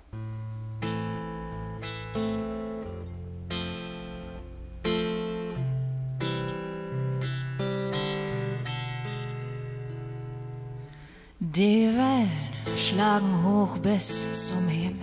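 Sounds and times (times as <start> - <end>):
guitar chords ringing: 0.0 - 15.0.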